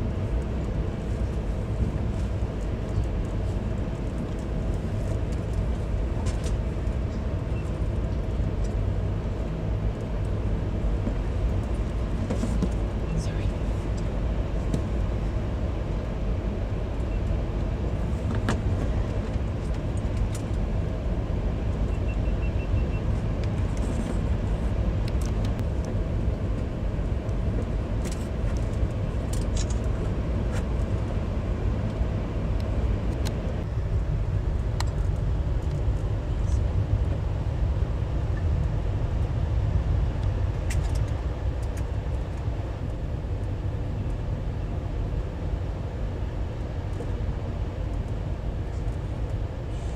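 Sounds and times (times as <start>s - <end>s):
vehicle rumble from inside: 0.0s - 49.9s.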